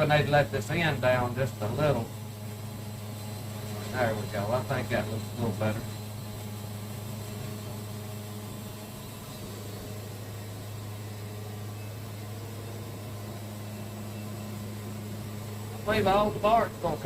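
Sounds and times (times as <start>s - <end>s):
sawmill engine running steadily: 0.0s - 17.0s.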